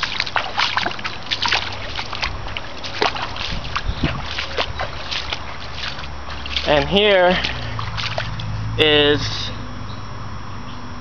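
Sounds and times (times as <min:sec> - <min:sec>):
water splashing and trickling: 0:00.0 - 0:09.4.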